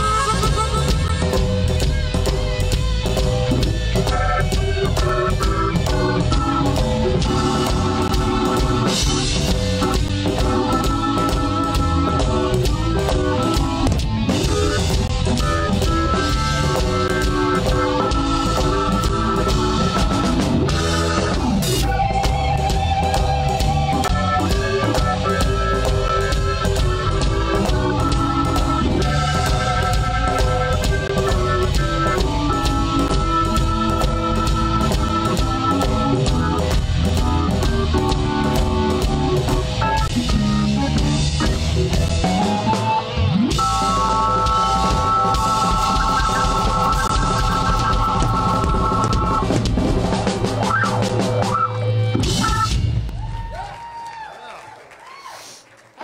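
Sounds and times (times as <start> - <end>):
organ: 0.0 - 53.1
drum kit steady beat: 0.0 - 53.6
electric guitar: 0.0 - 53.7.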